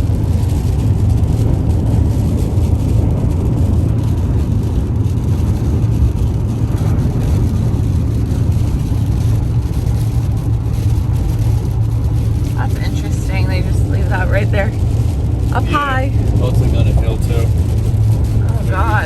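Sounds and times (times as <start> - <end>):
car interior road and engine rumble: 0.0 - 19.0.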